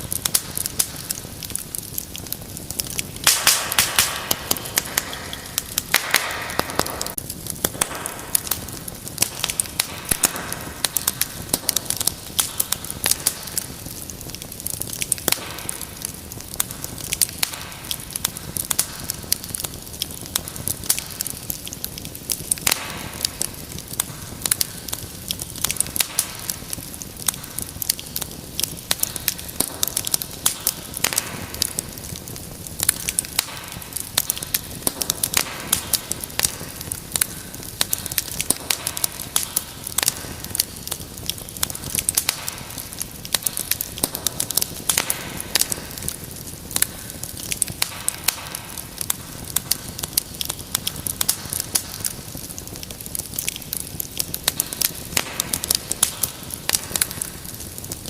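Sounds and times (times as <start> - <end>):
low hiss of flame: 0.0 - 58.0
wood fire crackling: 0.0 - 58.0.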